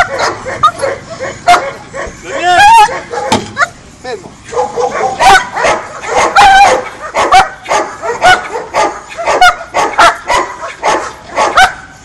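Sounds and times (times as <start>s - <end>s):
dog barking aggressively: 0.0s - 3.7s, 4.5s - 12.0s.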